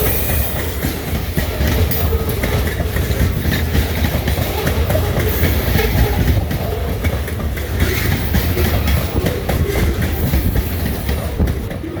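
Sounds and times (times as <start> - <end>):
heavy train rumble: 0.0 - 12.0
train wheels clicking on rail joints: 0.0 - 12.0.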